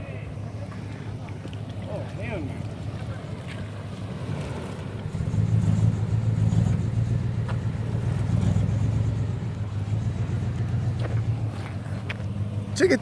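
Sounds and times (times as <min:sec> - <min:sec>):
off-road vehicle engine rumbling: 0:00.0 - 0:13.0.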